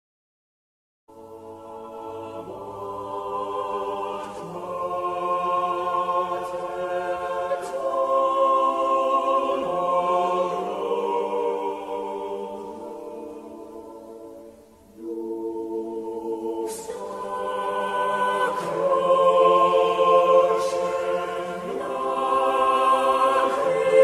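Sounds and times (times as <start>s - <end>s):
choir singing held chords: 1.1s - 24.0s.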